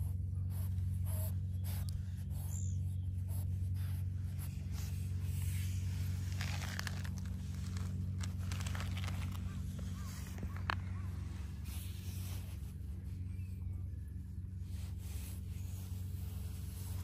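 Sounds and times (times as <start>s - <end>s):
steady low hum: 0.0s - 17.0s
hand stroking cat fur: 3.2s - 17.0s.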